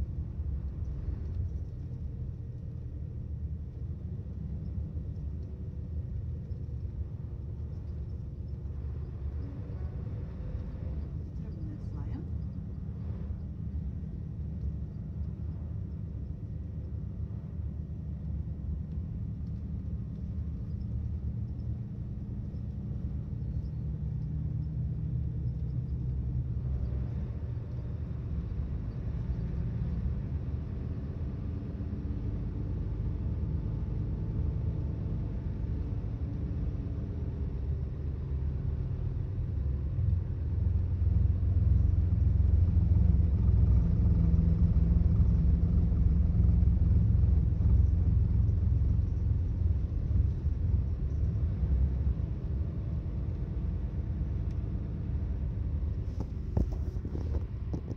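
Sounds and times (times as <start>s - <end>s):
bus diesel engine rumble: 0.0s - 57.9s.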